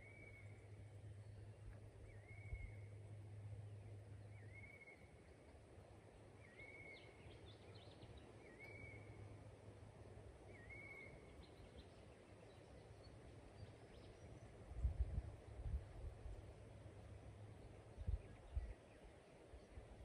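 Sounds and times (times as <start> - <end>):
faint bird chirps: 0.0 - 5.6, 6.4 - 9.4, 10.4 - 15.8, 17.5 - 20.0.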